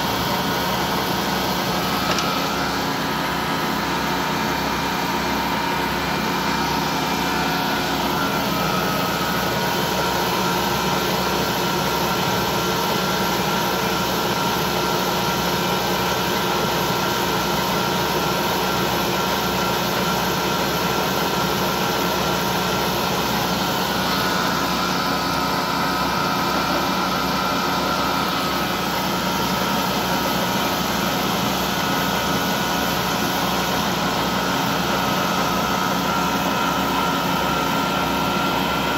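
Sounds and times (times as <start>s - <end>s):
lathe cutting metal: 0.0s - 38.9s.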